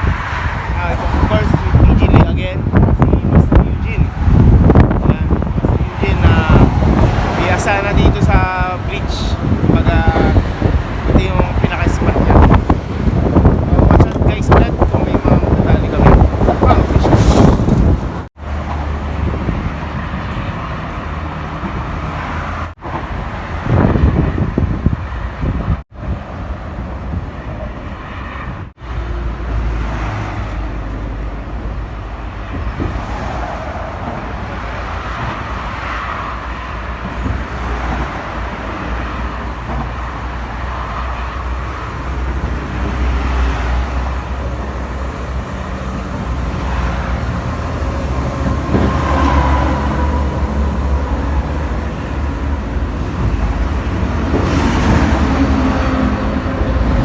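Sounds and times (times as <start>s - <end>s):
road traffic rumble: 0.0s - 57.0s
wind noise on microphone: 0.0s - 57.0s.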